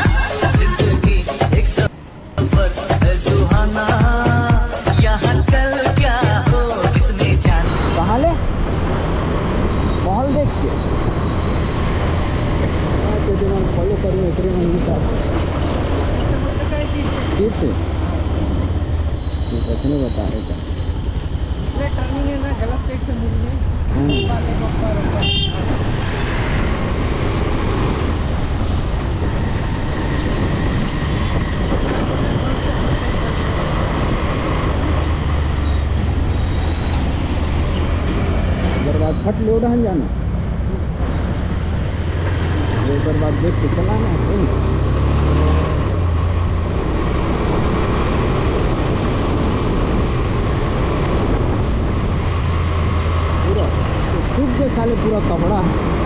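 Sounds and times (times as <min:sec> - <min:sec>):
wind rushing over microphone: 0:07.6 - 0:19.5, 0:20.3 - 0:39.2, 0:39.8 - 0:56.0.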